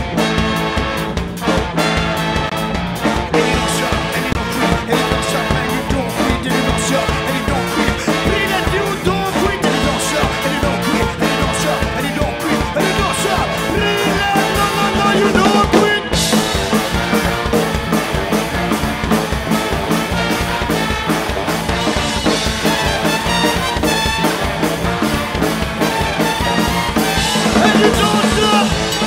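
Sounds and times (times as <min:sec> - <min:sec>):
drum kit: 0:00.0 - 0:29.0
electric guitar: 0:00.0 - 0:29.0
horn section playing: 0:00.0 - 0:29.0.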